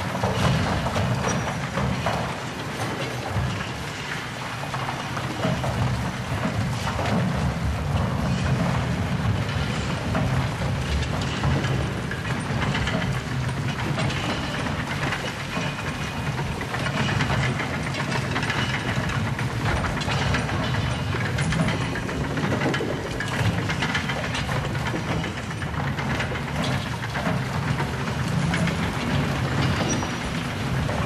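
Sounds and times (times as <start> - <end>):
low rumble with clattering: 0.0 - 31.0.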